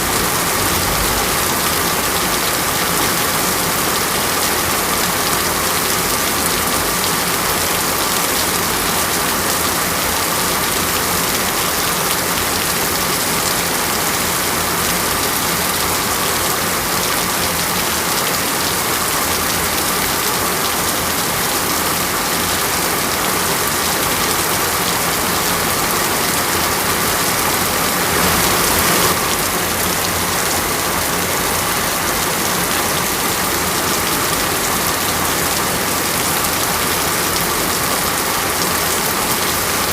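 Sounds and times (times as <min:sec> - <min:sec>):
rain falling and splashing: 0:00.0 - 0:39.9.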